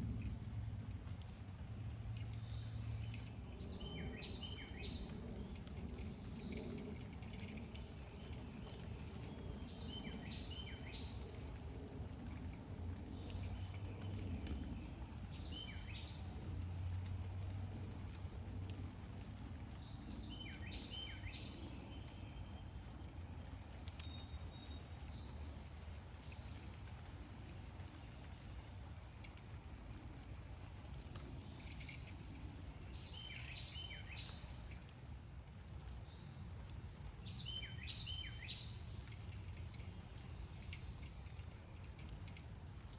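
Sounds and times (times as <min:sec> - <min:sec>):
songbirds chirping: 0:00.0 - 0:42.9
steady low rumble: 0:00.0 - 0:42.9.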